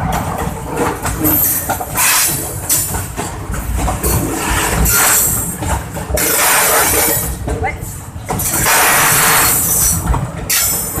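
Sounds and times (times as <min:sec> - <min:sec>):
train passing close by: 0:00.0 - 0:11.0.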